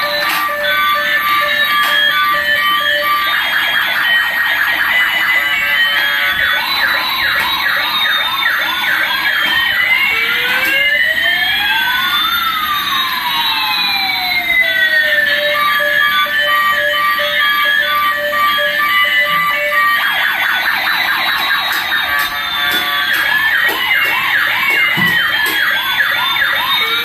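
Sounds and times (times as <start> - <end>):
toy electronic siren: 0.0 - 27.0.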